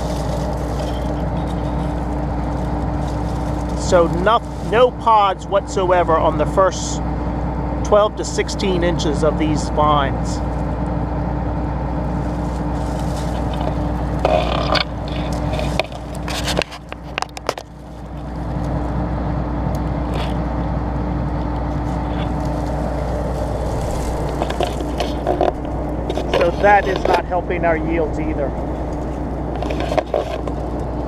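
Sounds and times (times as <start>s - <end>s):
dry vines rustling and crackling: 0.0s - 5.4s, 10.4s - 20.6s, 21.2s - 31.0s
combine engine idling: 0.0s - 31.0s.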